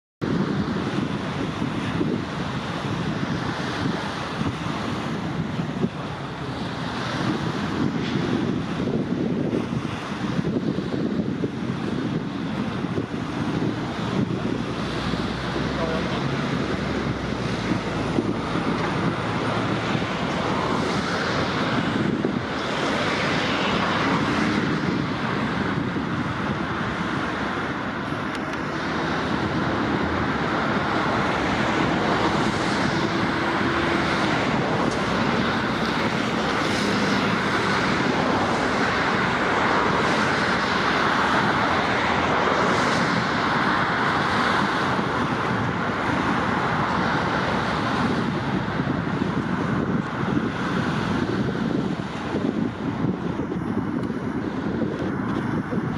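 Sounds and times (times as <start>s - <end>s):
passing engines: 0.2s - 55.9s
traffic rumble: 0.2s - 55.9s
wind buffeting microphone: 0.2s - 55.9s.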